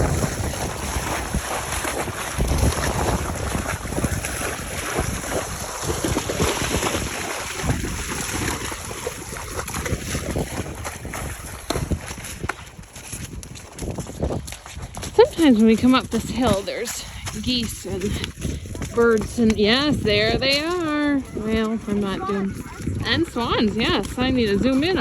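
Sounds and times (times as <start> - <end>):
horses splashing through water: 0.0 - 25.0
wind buffeting microphone: 0.0 - 25.0.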